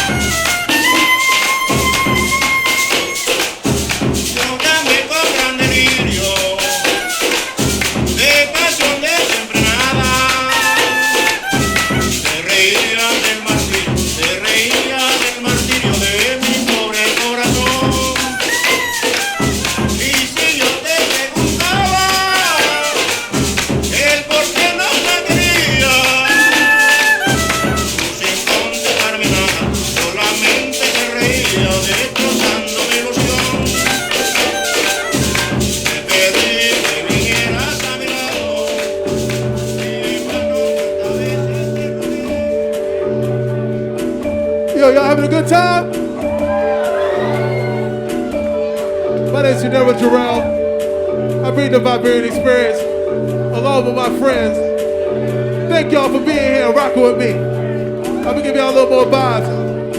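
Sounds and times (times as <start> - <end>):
shaker percussion: 0.0 - 42.8, 45.9 - 51.4
sung vocal phrases: 0.0 - 43.8, 44.7 - 59.9
electronic beat music: 0.0 - 59.9.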